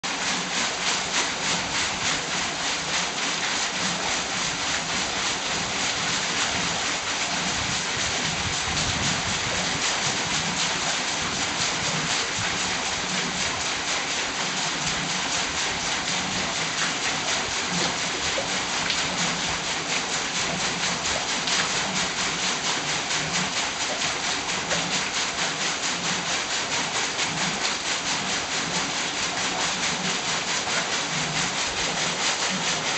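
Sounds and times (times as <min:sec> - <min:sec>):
water pouring over water wheel: 0:00.0 - 0:32.9.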